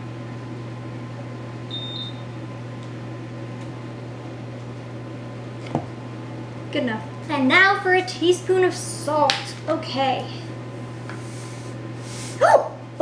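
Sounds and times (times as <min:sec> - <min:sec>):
oven fan humming: 0:00.0 - 0:13.0.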